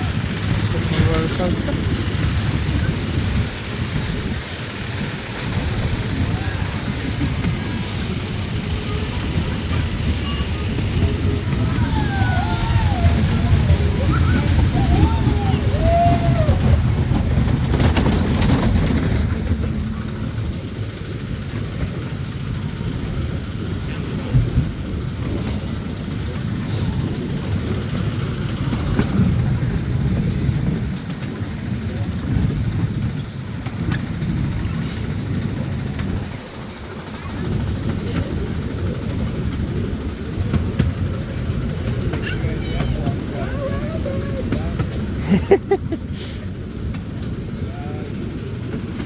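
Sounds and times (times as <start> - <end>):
ride cars rumbling on track: 0.0 - 49.0.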